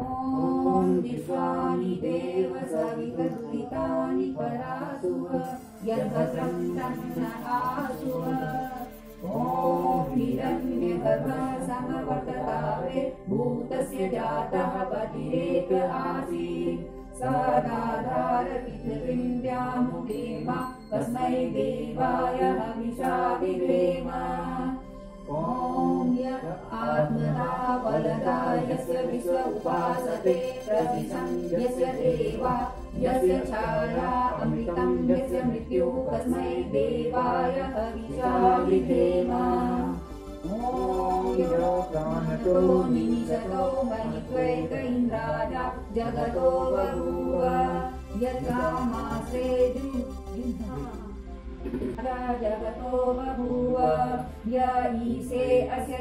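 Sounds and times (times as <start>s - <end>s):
man and woman chanting a prayer: 0.0s - 51.1s.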